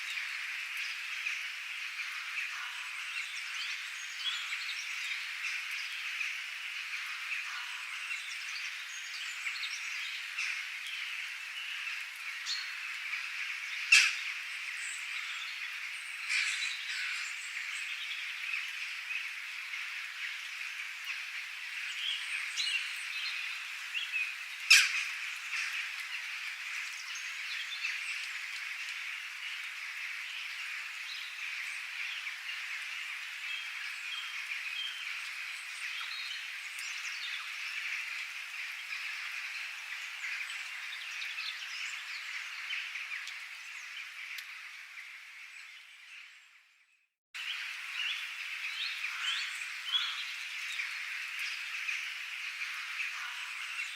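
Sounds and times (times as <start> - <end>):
frogs calling: 0.0 - 45.3, 47.4 - 53.9.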